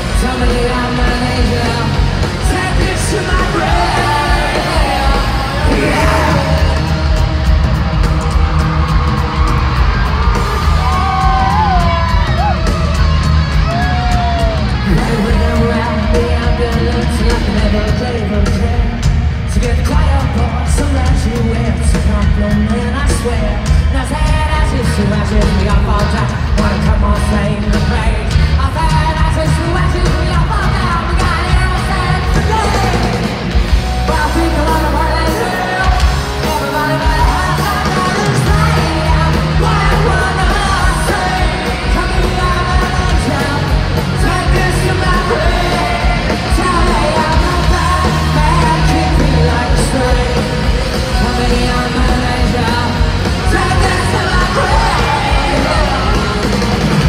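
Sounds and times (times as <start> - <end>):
drums: 0.0 - 57.0
electric guitars: 0.0 - 57.0
lead vocals singing: 0.0 - 57.0.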